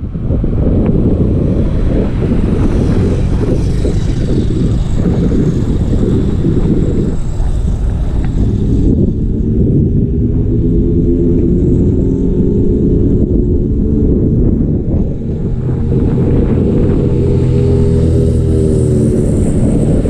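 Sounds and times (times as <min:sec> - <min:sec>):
tyre and road noise: 0:00.0 - 0:20.0
wind buffeting microphone: 0:00.0 - 0:20.0.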